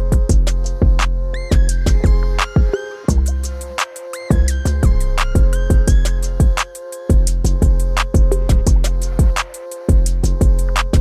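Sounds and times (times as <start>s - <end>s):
kick drum: 0.0s - 3.4s, 4.3s - 11.0s
deep bass notes: 0.0s - 11.0s
hi-hat ticks: 0.0s - 11.0s.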